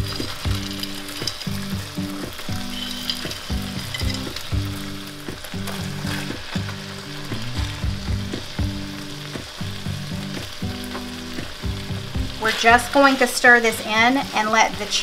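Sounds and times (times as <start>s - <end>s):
background music: 0.0s - 15.0s
sauce sizzling in a skillet: 0.0s - 15.0s.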